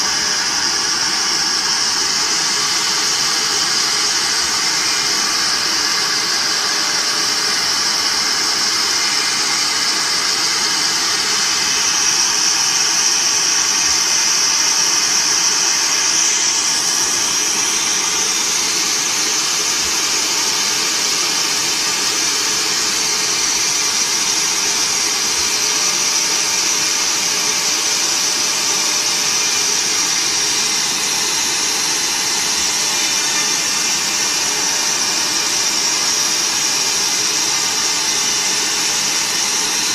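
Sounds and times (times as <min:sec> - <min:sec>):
machine noise: 0:00.0 - 0:39.9
spindles high-pitched whine: 0:00.0 - 0:39.9.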